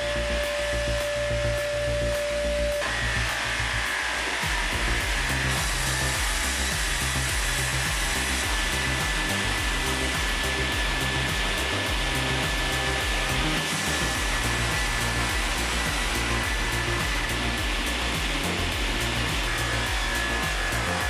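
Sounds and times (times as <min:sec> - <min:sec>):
machine rushing noise: 0:00.0 - 0:21.0
music with bass beat: 0:00.0 - 0:21.0
thin high tone: 0:00.0 - 0:21.0.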